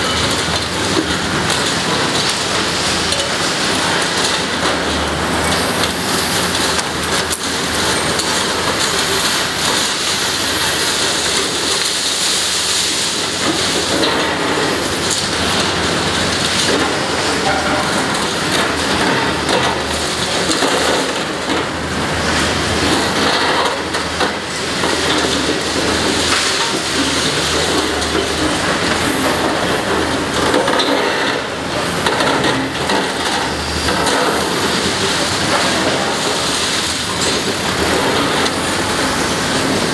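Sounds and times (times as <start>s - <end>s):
debris crackling and falling: 0.0s - 39.9s
hydraulic shear crunching concrete: 0.0s - 39.9s.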